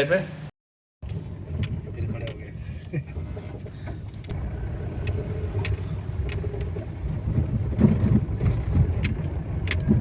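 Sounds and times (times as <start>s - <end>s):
road noise: 0.0s - 10.0s
car engine rumble: 0.4s - 10.0s.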